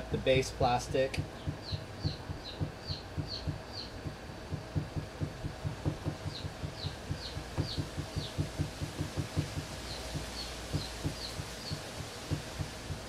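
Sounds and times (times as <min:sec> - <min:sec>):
bird chirping: 0:00.2 - 0:12.6.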